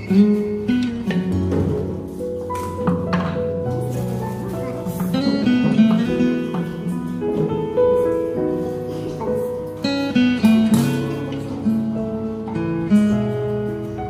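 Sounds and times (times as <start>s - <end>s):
plucked and strummed guitar music: 0.0s - 14.0s.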